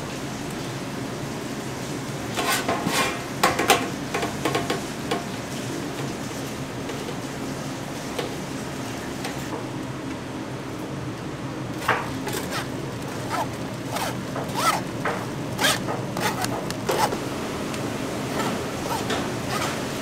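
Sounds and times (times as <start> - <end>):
kitchen hum: 1.9 - 20.0.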